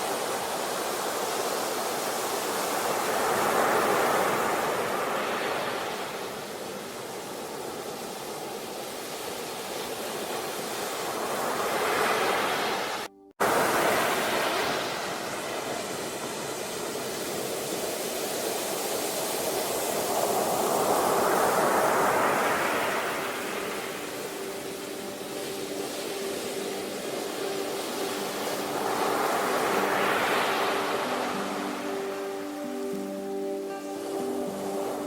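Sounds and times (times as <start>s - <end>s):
sea surf washing on shore: 0.0s - 35.0s.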